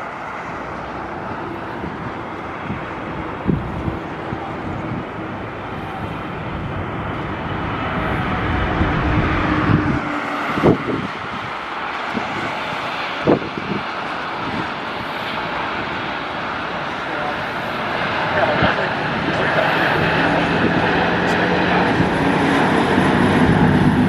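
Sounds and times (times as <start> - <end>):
jet engines on landing: 0.0 - 24.0
wind buffeting microphone: 0.0 - 24.0.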